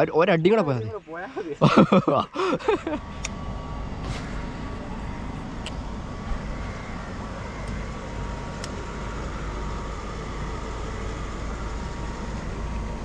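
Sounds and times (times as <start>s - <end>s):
low traffic rumble: 0.0s - 13.0s
vehicle passing: 0.6s - 13.0s.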